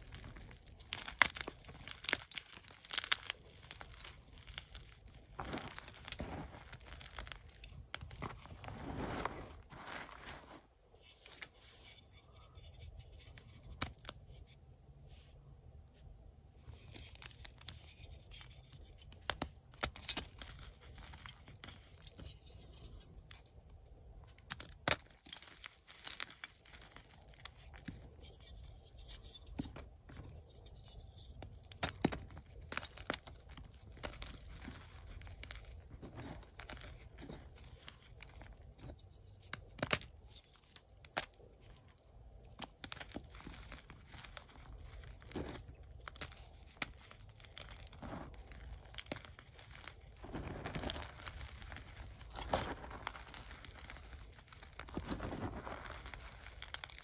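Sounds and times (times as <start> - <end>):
chalk crumbling and crunching: 0.0 - 14.6, 16.6 - 57.0.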